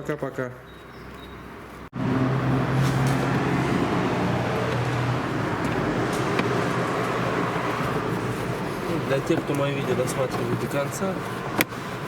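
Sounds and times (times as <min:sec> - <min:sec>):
car engine running: 0:02.0 - 0:12.0.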